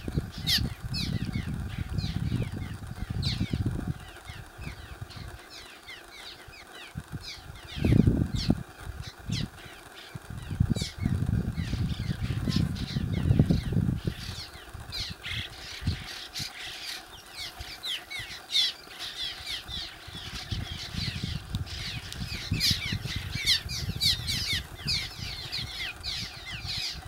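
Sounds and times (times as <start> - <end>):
flock of birds chirping: 0.0 - 27.0.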